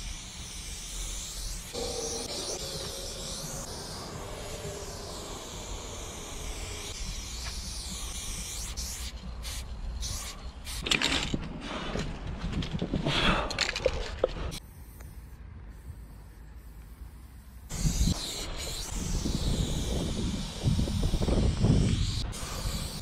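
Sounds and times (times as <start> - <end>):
spray paint can hissing: 0.0 - 11.0, 13.8 - 23.0.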